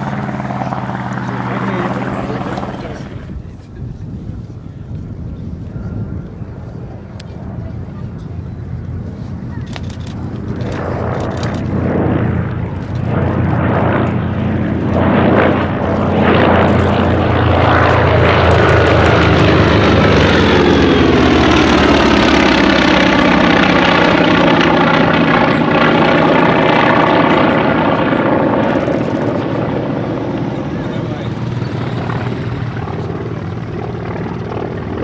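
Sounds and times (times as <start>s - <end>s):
propeller plane engine roaring: 0.0s - 35.0s.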